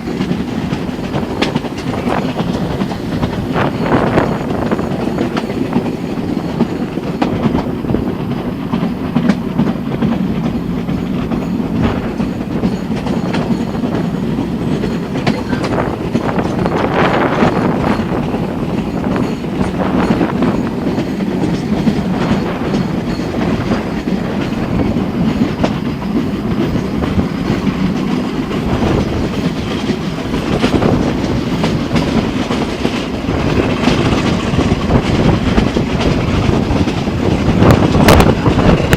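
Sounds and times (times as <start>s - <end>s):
train rumbling: 0.0s - 38.9s
wheels clacking on rail joints: 0.0s - 38.9s.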